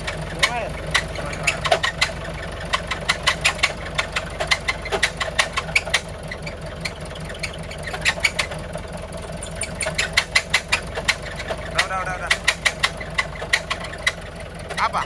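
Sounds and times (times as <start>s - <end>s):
engine humming: 0.0s - 15.0s
sharp engine clicking: 0.0s - 15.0s.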